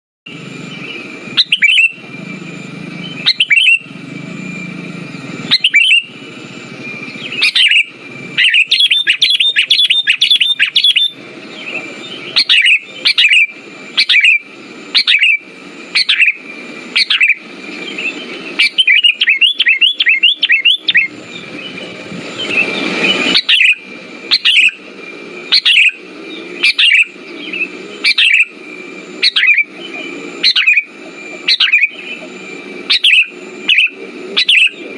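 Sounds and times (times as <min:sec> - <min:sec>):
bird calling: 0:00.3 - 0:34.9
bird chattering: 0:00.7 - 0:02.1, 0:02.9 - 0:04.0, 0:04.6 - 0:34.9.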